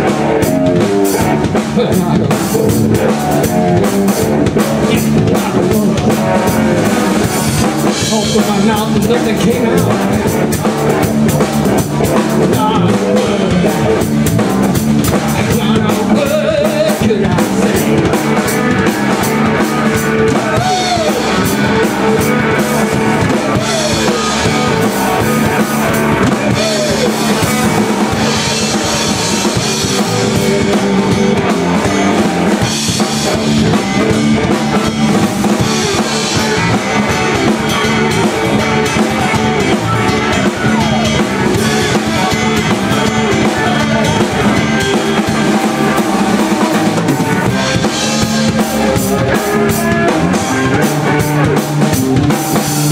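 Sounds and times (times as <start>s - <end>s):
drum kit with cymbals: 0.0s - 52.9s
electric bass: 0.0s - 52.9s
electric guitar: 0.0s - 52.9s.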